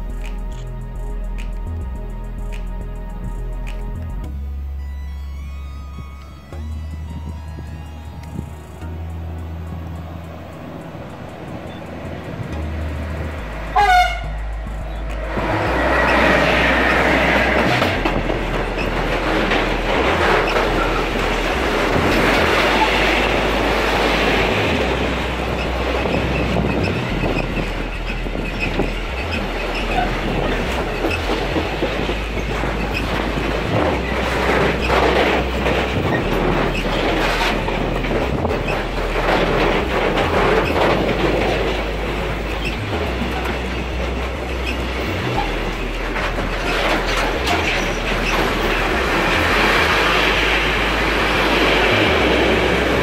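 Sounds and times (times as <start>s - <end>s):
train wheels rumbling on rails: 5.4s - 53.0s
wheels clicking over rail joints: 6.0s - 53.0s.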